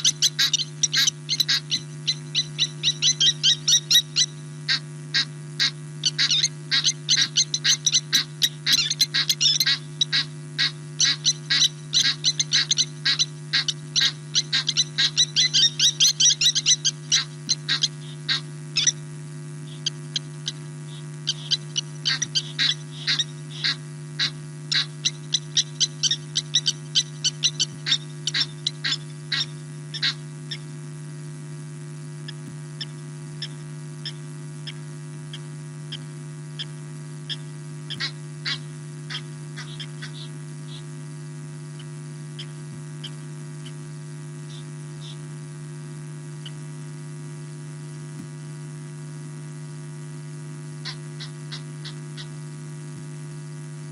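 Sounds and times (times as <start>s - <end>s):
lapwing alarm calls: 0.0s - 30.7s, 32.3s - 41.0s, 41.8s - 45.3s, 50.8s - 52.4s
steady electrical hum: 0.0s - 53.9s.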